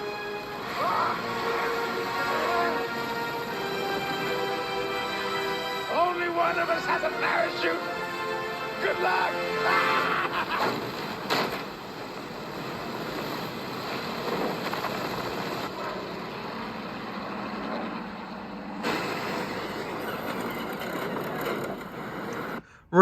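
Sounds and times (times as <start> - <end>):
aircraft engine noise: 0.0 - 22.6.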